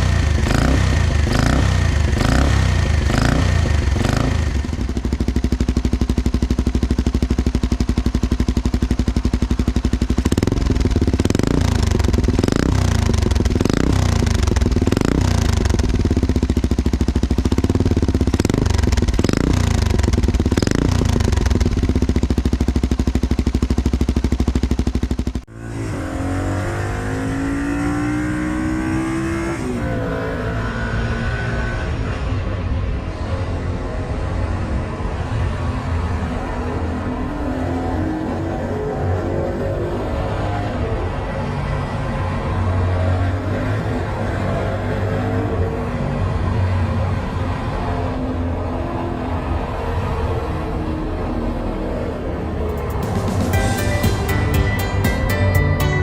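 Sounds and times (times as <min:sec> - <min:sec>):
motorcycle engine revving: 0:00.0 - 0:55.5.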